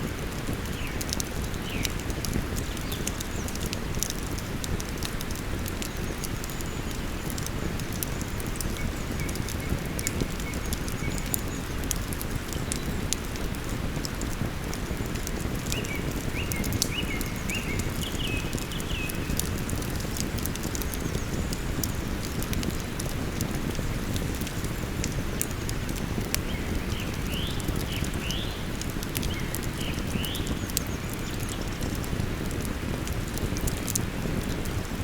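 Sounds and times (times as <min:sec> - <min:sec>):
campfire crackling and popping: 0:00.0 - 0:35.0
small birds singing: 0:00.1 - 0:35.0.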